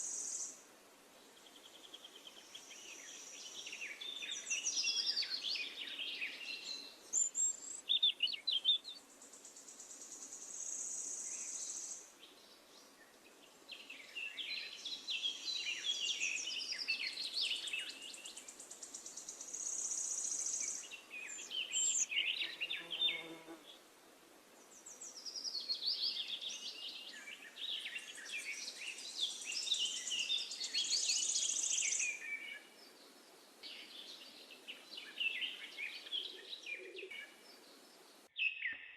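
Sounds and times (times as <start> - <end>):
birds chirping: 1.2 - 23.8, 24.6 - 38.8.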